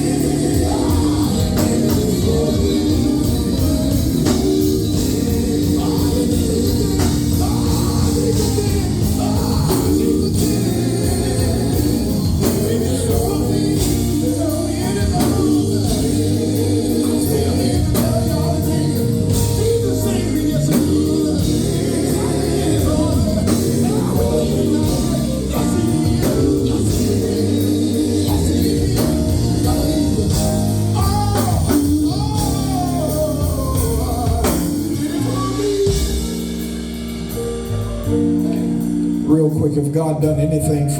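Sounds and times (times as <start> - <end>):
people singing: 0.0 - 37.0
drums: 0.0 - 40.4
gospel band playing: 0.0 - 40.9.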